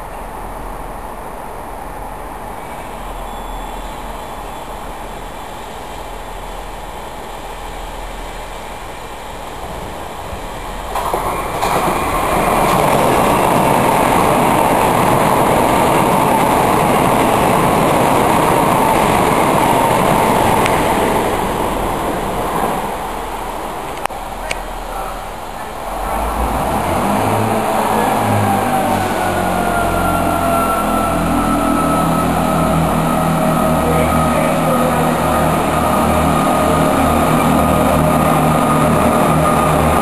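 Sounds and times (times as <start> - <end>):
electric train running past: 0.0 - 40.0.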